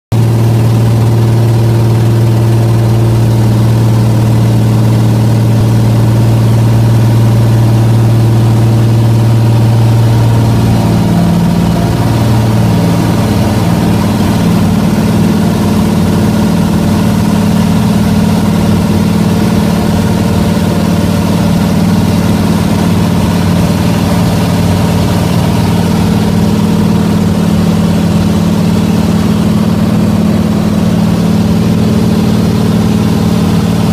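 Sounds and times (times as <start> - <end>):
propeller engine drone: 0.1 - 33.9.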